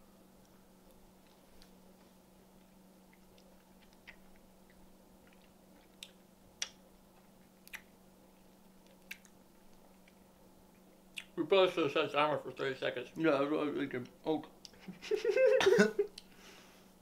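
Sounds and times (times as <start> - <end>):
low steady room hum: 0.0 - 17.0.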